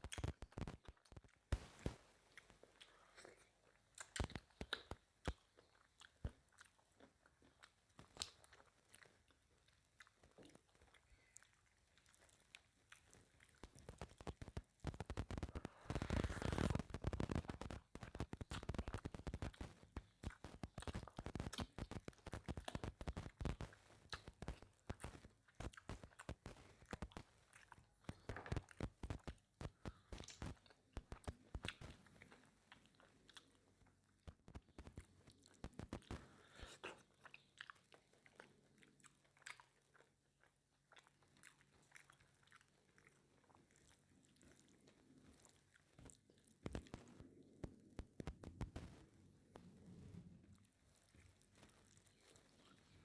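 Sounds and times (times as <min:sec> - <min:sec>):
person chewing and smacking: 0:00.0 - 0:49.7, 0:50.4 - 0:53.0.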